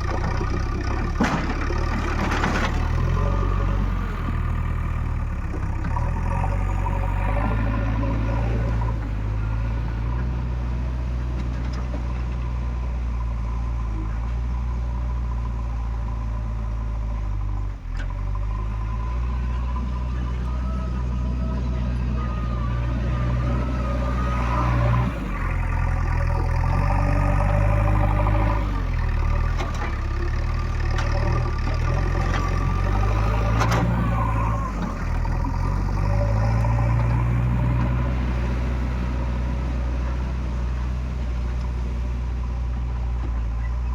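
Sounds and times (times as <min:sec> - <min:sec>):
heavy diesel engine revving: 0:00.0 - 0:43.9.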